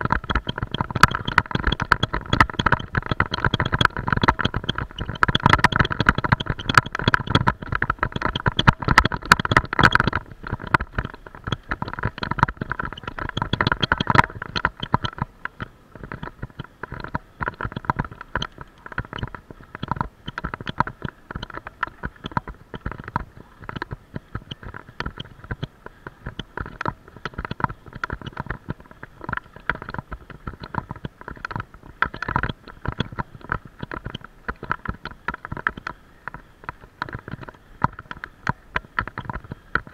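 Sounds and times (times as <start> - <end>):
mountain bike rattling: 0.0 - 39.9.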